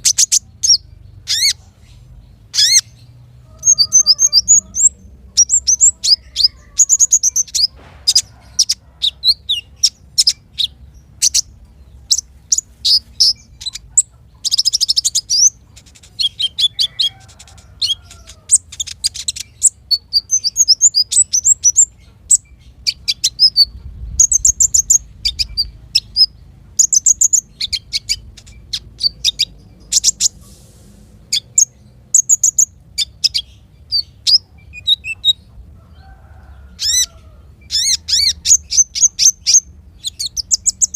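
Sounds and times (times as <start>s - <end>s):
small songbirds singing: 0.0s - 40.9s.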